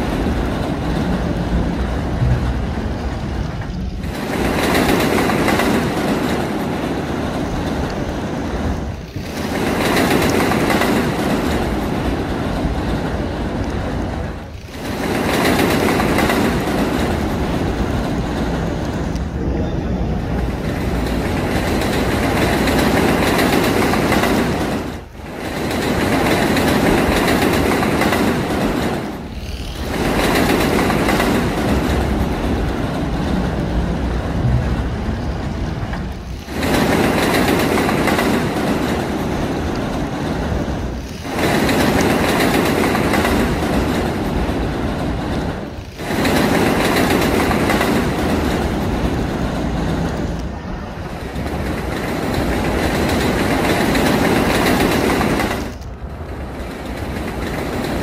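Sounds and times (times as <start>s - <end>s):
train running on rails: 0.0s - 58.0s.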